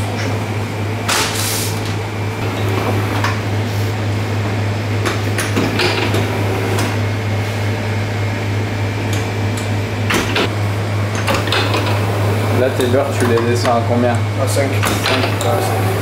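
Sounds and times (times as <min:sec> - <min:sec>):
bakery machine hum: 0:00.0 - 0:16.0.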